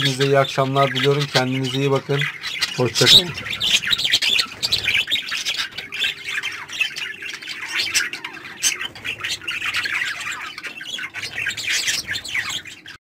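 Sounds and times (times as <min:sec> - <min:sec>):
budgerigars chattering and squawking: 0:00.0 - 0:13.0.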